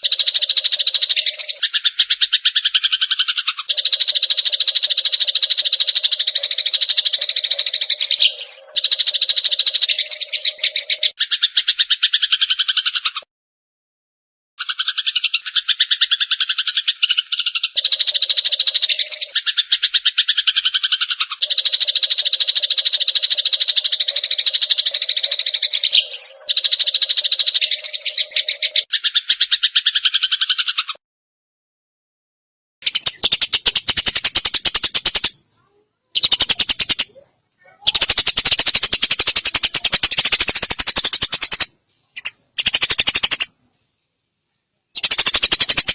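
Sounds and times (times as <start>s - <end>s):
sparrows chattering: 0.0s - 13.3s, 14.6s - 31.0s, 32.8s - 43.6s, 44.9s - 45.9s.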